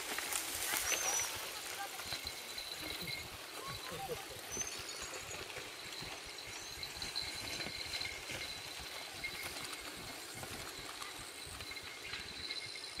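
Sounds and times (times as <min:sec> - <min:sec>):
bike tyres rustling through grass: 0:00.0 - 0:12.5
high-pitched ringing tone: 0:00.7 - 0:13.0.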